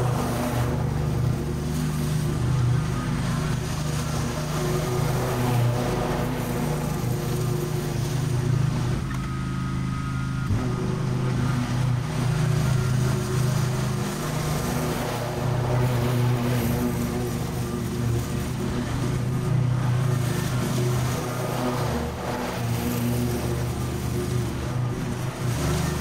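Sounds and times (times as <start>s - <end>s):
mower engine running: 0.0s - 26.0s.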